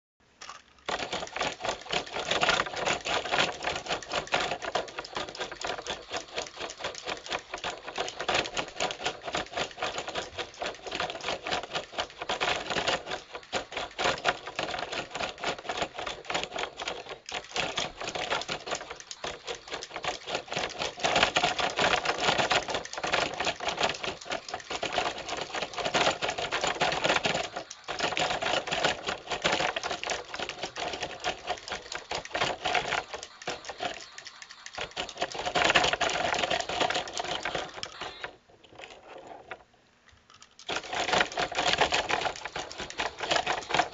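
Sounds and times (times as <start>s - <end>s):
toy robots clattering: 0.2s - 43.9s.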